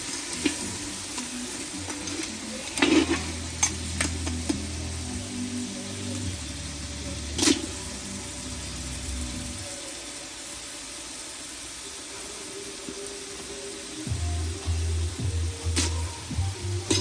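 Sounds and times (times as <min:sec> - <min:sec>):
crab sizzling in a pot: 0:00.0 - 0:17.0.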